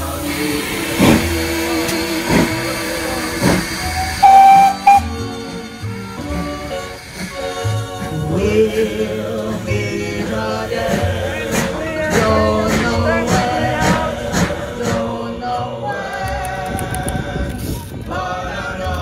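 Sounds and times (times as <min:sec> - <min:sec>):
voices singing held notes: 0:00.0 - 0:19.0.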